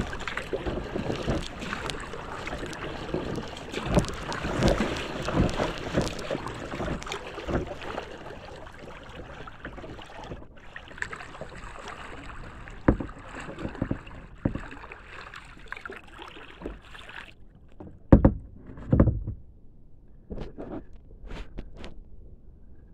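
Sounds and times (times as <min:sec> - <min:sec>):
water splashing against kayak: 0:00.0 - 0:19.3.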